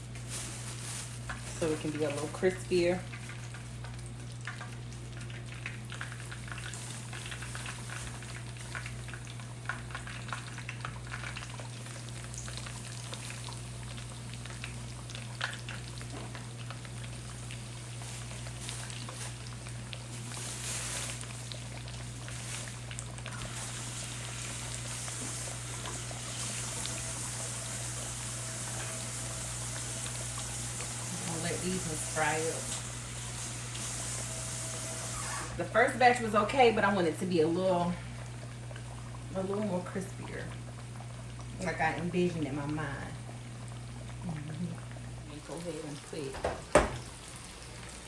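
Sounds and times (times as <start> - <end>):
chicken frying in hot oil: 0.0 - 48.0.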